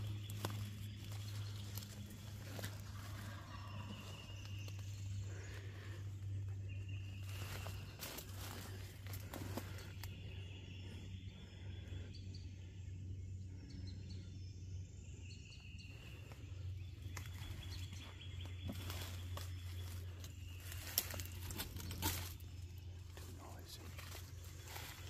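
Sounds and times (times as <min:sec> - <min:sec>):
faint bird chirps: 0:00.0 - 0:25.0
low hum: 0:00.0 - 0:25.0.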